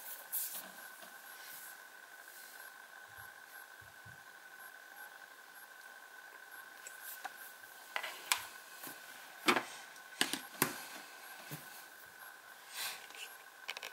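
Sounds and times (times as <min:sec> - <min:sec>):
faint high whine: 0:00.0 - 0:13.9.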